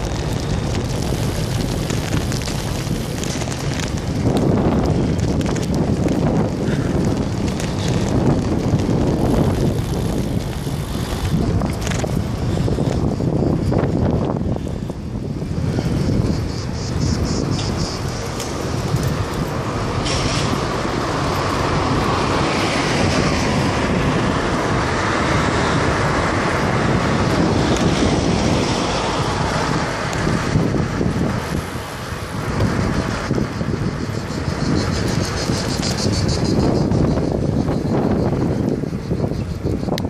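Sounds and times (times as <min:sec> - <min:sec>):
street traffic noise: 0:00.0 - 0:40.0
wind rushing over microphone: 0:00.0 - 0:40.0.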